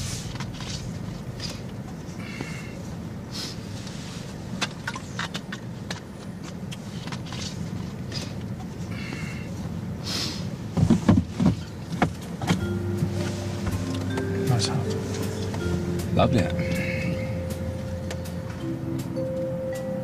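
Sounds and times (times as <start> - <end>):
car engine hum from inside cabin: 0.0 - 20.0.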